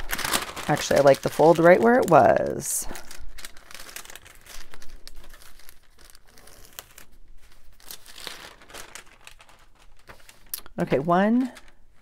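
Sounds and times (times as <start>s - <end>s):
paper rustling and crinkling: 0.0s - 12.0s.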